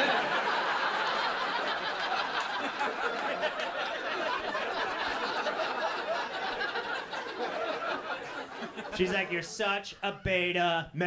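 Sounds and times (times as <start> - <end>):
audience laughing: 0.0 - 10.2.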